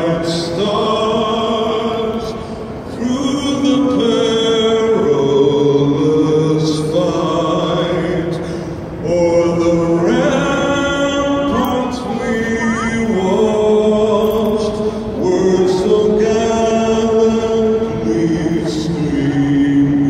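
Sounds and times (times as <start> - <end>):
person singing over loudspeakers: 0.0 - 8.4, 9.0 - 20.0.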